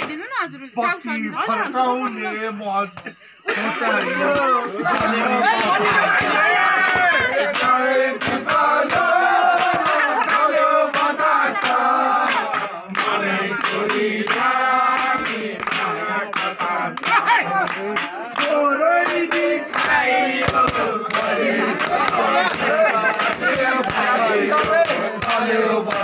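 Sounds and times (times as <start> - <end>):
group singing folk song: 3.4 - 26.0
hand claps: 4.2 - 26.0.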